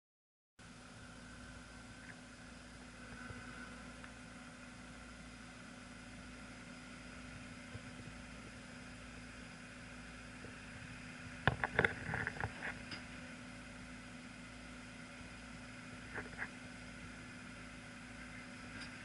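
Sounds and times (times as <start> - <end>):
engine humming: 0.6 - 19.0.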